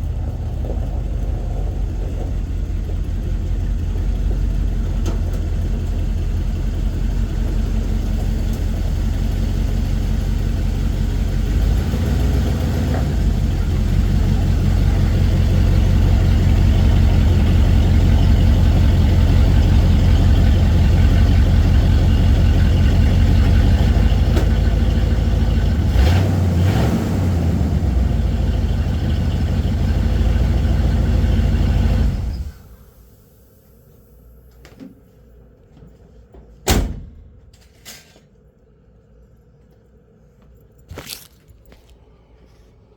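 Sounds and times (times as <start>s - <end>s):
truck engine idling: 0.0s - 34.4s.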